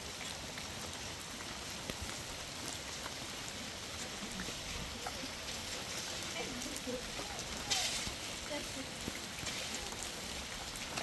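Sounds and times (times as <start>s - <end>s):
raindrops ticking on surfaces: 0.0s - 11.0s
steady rain hiss: 0.0s - 11.0s.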